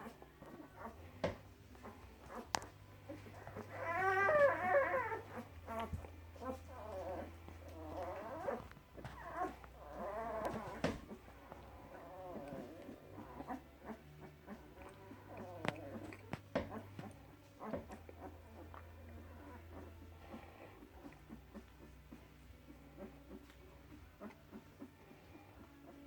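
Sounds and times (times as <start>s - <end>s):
puppies whimpering and whining: 0.0s - 26.0s.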